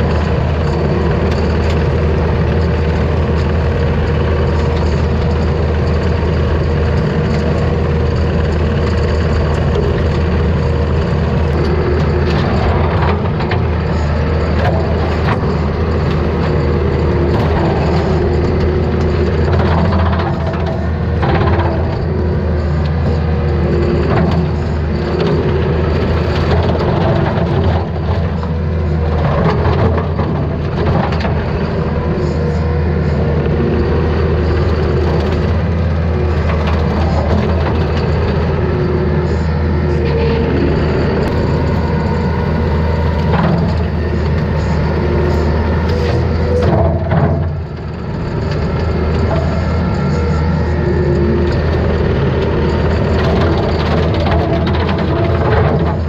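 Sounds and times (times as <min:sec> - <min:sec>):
track loader engine running: 0:00.0 - 0:56.0.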